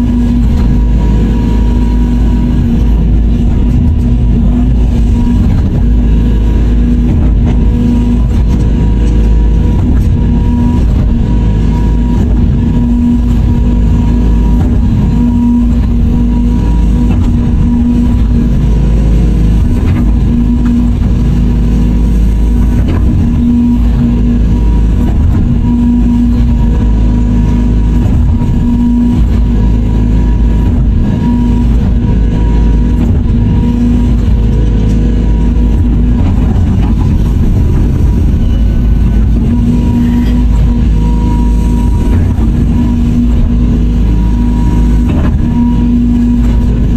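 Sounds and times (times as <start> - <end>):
hum: 0.0 - 46.9
low rumble: 0.0 - 46.9.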